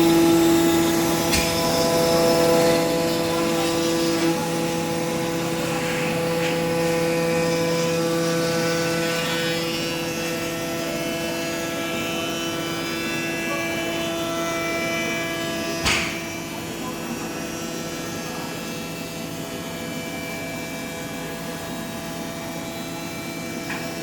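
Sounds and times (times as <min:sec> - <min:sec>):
machine motor humming and whining: 0:00.0 - 0:24.0.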